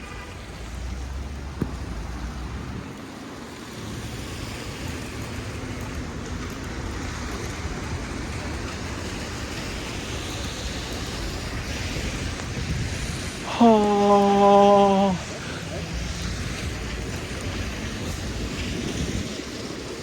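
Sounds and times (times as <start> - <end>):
passing traffic rumble: 0.0 - 20.0
rain falling: 0.0 - 20.0.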